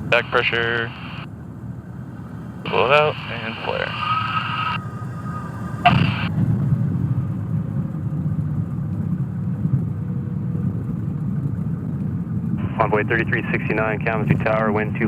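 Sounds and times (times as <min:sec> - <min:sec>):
aircraft engine idling rumble: 0:00.0 - 0:15.0.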